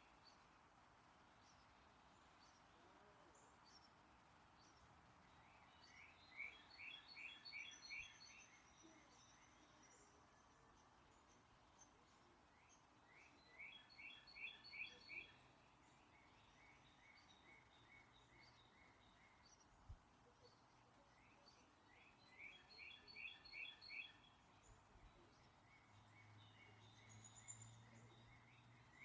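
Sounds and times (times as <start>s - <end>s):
faint steady hiss: 0.0s - 29.0s
songbird chirping: 1.4s - 29.0s.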